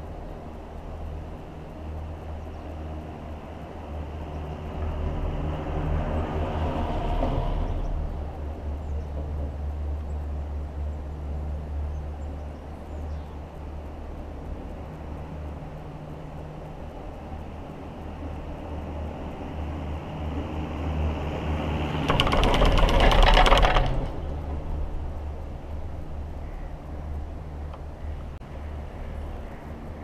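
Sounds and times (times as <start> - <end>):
cable car humming and rumbling: 0.0 - 30.0.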